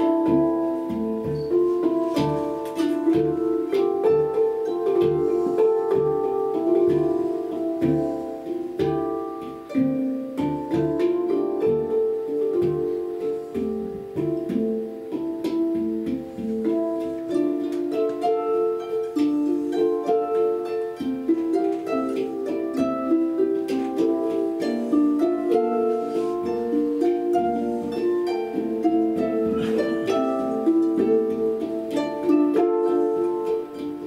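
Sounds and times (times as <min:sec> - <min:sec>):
hand pans played: 0:00.0 - 0:34.0
plucked harp: 0:00.0 - 0:34.0.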